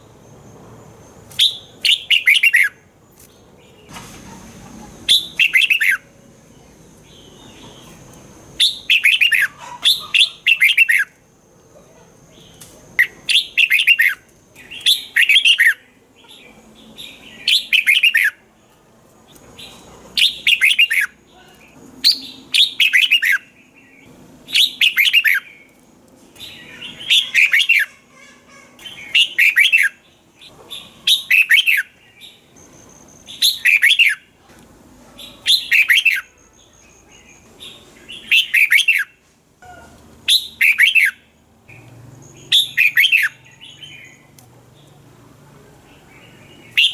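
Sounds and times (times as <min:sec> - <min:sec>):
bulbul singing: 0:01.0 - 0:03.9, 0:05.0 - 0:34.4, 0:35.2 - 0:45.0, 0:45.8 - 0:46.9.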